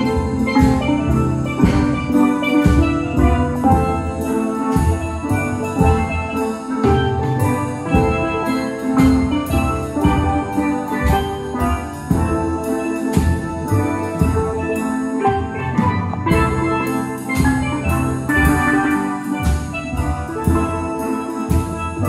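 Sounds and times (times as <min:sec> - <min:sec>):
steel band playing: 0:00.0 - 0:22.0.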